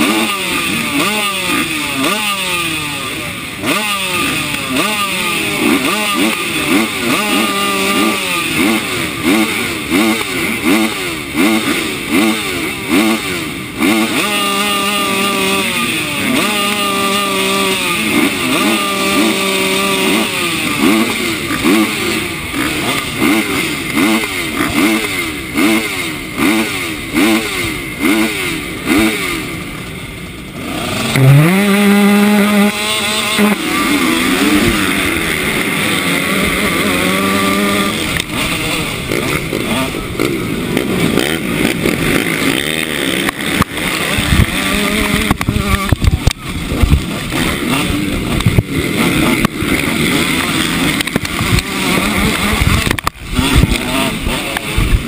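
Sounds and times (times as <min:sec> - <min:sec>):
motorbike engine revving: 0:00.0 - 0:55.0
motorbikes racing off: 0:00.0 - 0:55.0.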